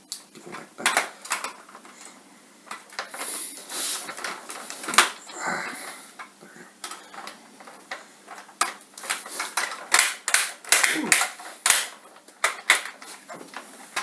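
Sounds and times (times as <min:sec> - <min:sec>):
plastic parts clicking and knocking: 0:00.0 - 0:14.0.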